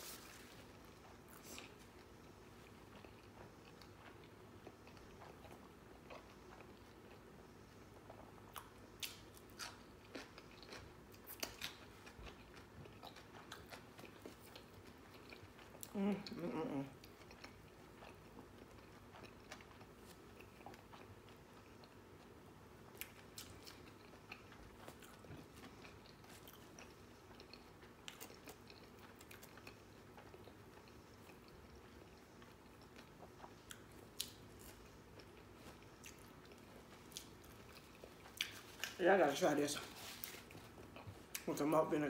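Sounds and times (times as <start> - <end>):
person chewing food: 0.0 - 41.8.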